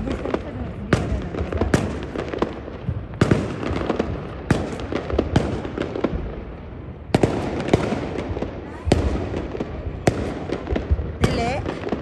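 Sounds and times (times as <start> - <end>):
fireworks bangs and crackles: 0.0 - 12.0
rumble of shells bursting: 0.0 - 12.0.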